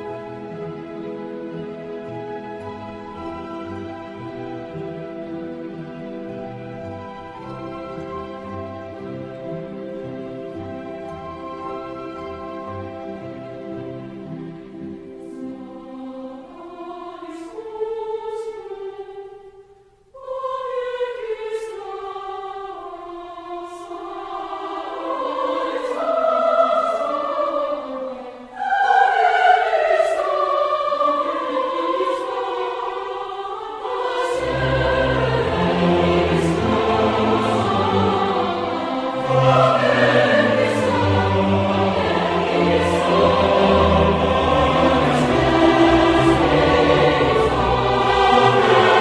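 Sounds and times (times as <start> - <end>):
choral singing: 0.0 - 49.0.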